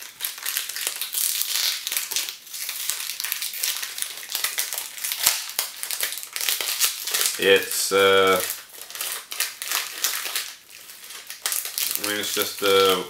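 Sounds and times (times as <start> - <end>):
snack wrapper crinkling: 0.0 - 13.0.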